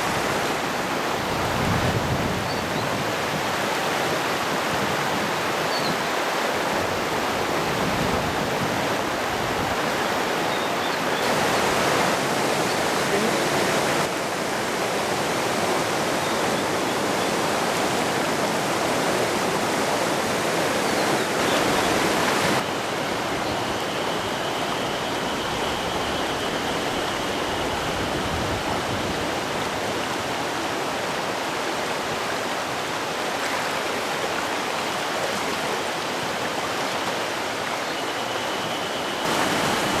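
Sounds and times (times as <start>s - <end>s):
stream rushing over rocks: 0.0s - 40.0s.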